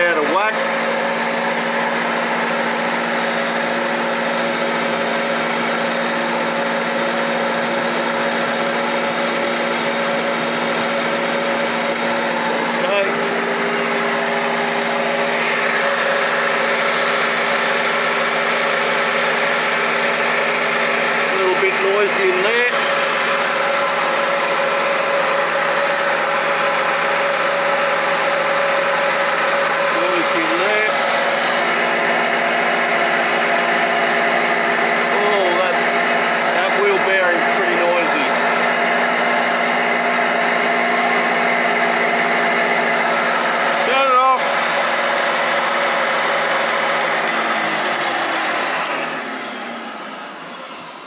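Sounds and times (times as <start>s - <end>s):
driveshaft whirring hum: 0.0s - 51.0s.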